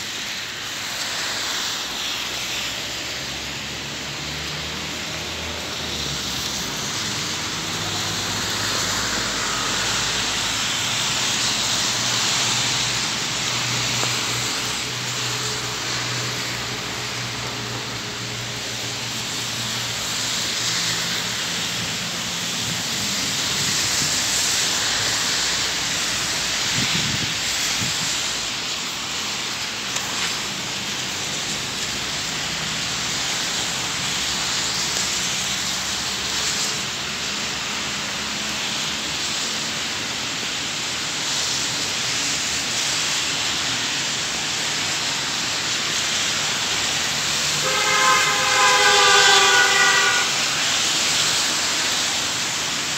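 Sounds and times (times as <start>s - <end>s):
rain on a wet street: 0.0s - 52.9s
car engines humming: 0.2s - 52.9s.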